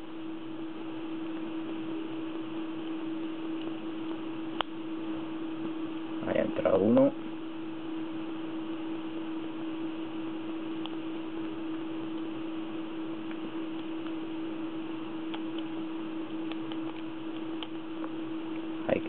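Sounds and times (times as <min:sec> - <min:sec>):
steady hiss and hum: 0:00.0 - 0:19.0.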